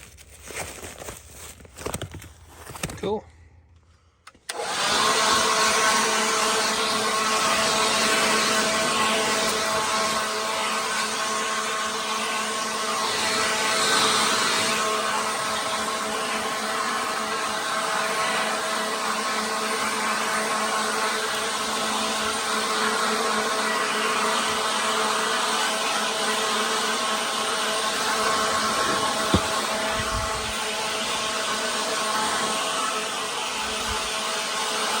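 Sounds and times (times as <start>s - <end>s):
cleaning machine motor whine: 4.5s - 35.0s.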